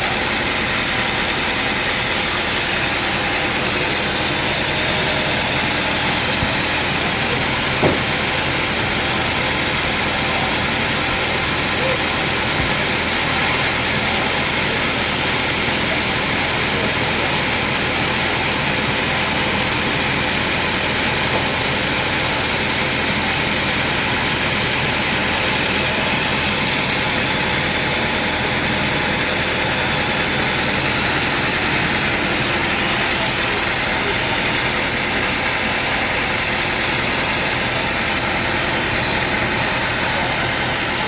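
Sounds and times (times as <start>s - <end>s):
sawmill machinery droning: 0.0s - 41.0s.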